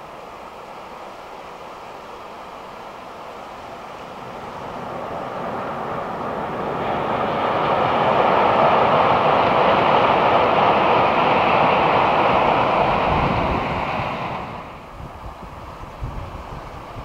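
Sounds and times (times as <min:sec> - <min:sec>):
train rushing past: 0:00.0 - 0:17.0.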